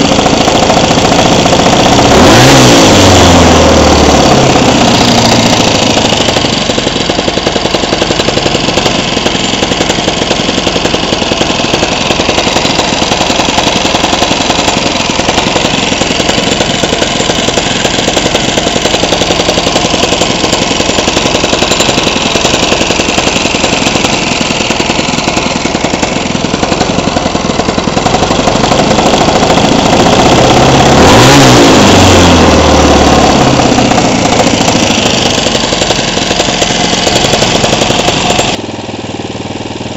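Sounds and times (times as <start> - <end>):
small engine running and revving: 0.0 - 39.9.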